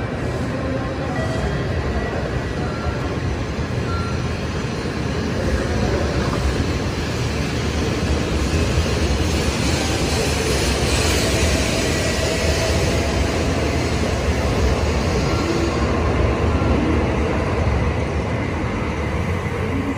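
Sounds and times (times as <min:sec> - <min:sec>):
train rumbling: 0:00.0 - 0:19.9.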